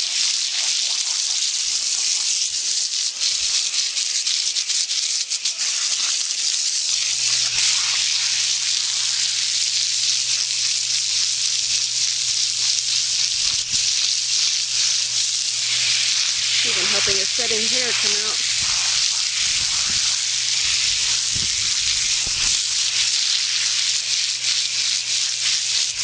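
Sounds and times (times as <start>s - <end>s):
hose water spraying: 0.0s - 26.0s.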